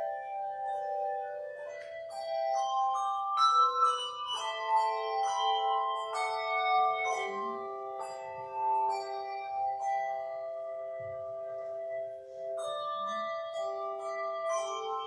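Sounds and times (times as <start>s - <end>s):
handbells ringing: 0.0s - 15.0s.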